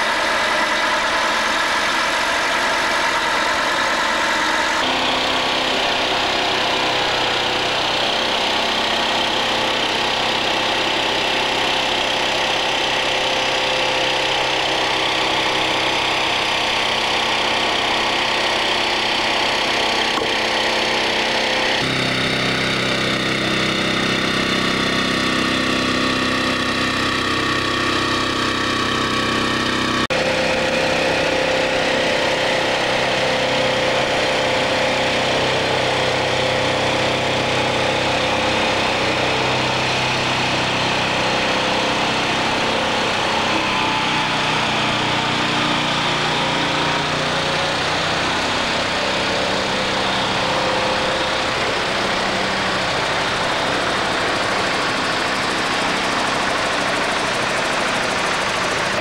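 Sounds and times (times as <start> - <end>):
diesel truck engines: 0.0 - 59.0.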